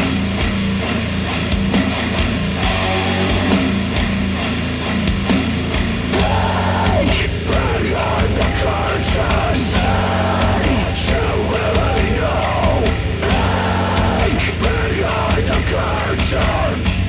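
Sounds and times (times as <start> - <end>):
hard rock music on speakers: 0.0 - 17.0.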